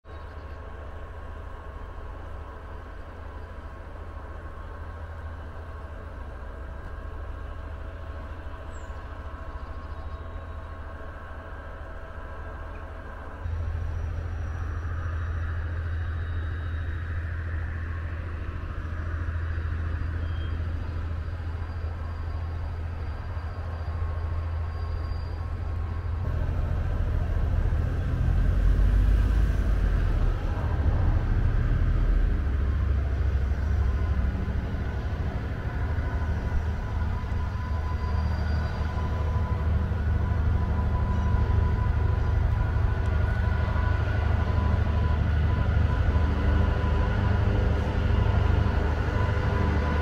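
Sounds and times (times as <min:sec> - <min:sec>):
diesel locomotive engine rumbling: 0:00.0 - 0:50.0.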